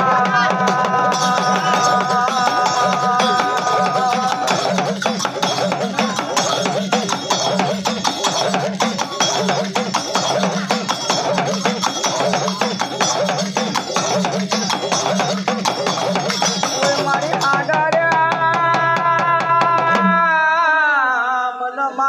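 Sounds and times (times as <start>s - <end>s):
drum beat: 0.0s - 20.3s.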